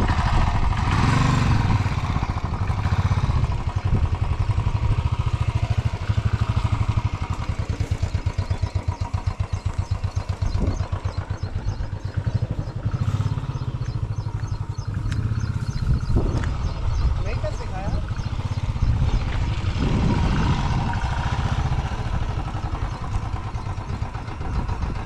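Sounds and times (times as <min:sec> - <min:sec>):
motorcycle engine at low revs: 0:00.0 - 0:25.0.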